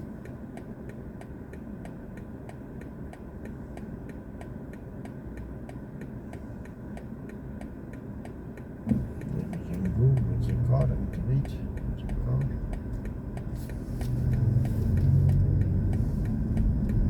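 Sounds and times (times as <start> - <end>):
low cabin hum: 0.0 - 17.0
turn signal ticking: 0.0 - 17.0.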